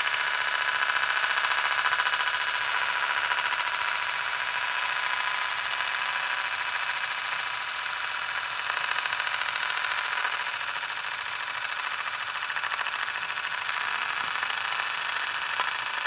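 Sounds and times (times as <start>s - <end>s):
fast fluttering whir of spinning: 0.0s - 16.0s.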